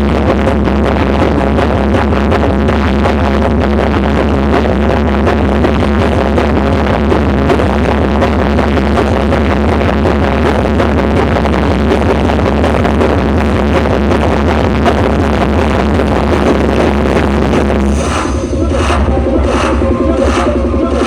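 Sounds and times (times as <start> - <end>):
electronic dance music: 0.0 - 21.0.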